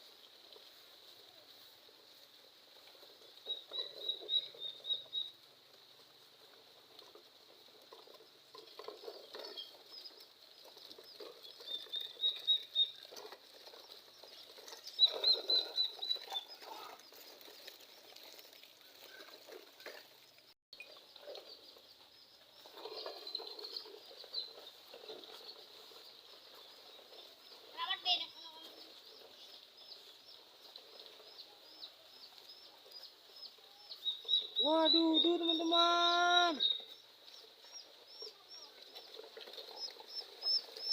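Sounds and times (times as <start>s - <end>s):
small birds chirping: 3.0s - 5.5s, 7.9s - 40.9s.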